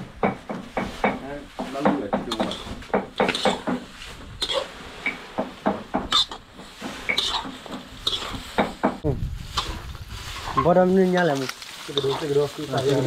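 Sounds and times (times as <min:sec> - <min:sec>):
metal spatula scraping a wok: 0:00.9 - 0:08.8, 0:09.4 - 0:13.0.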